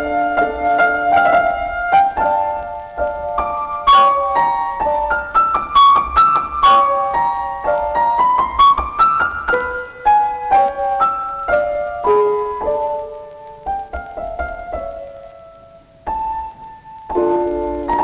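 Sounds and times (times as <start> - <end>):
classical keyboard music: 0.0 - 18.0.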